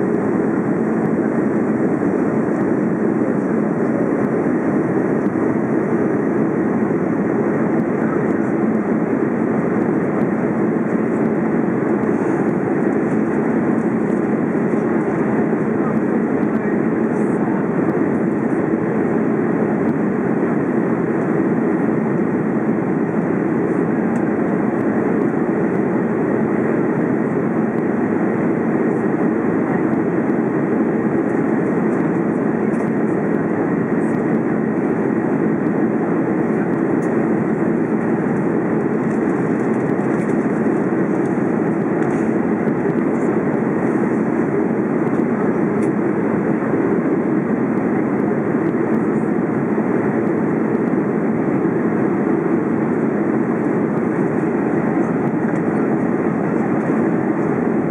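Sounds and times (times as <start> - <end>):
airplane cabin rumble: 0.0 - 57.9.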